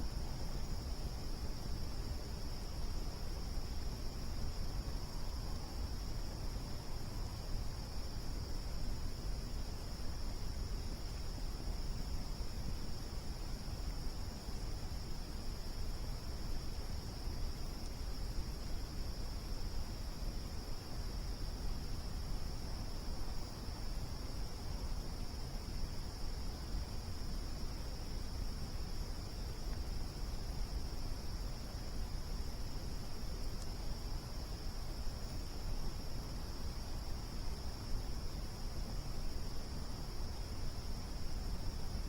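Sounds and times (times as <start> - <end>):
crickets trilling: 0.0 - 42.0.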